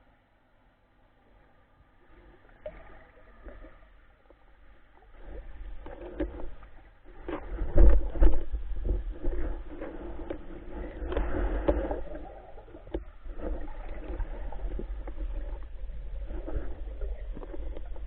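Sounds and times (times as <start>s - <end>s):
muffled water sloshing: 1.2s - 18.0s.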